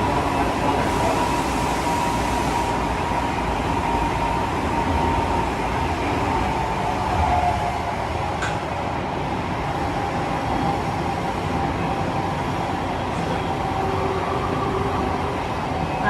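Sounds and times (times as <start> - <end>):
subway wheels rumbling on rails: 0.0 - 16.0.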